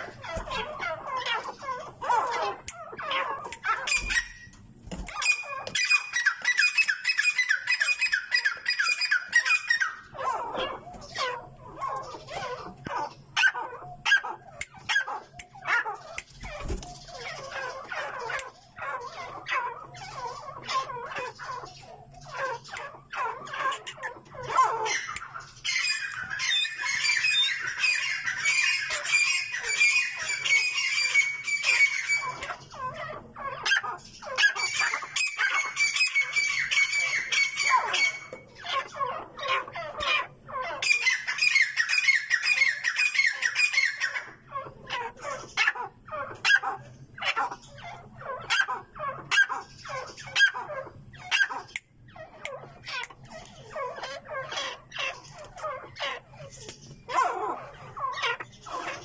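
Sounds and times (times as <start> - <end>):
partridges squawking: 0.0 - 59.0.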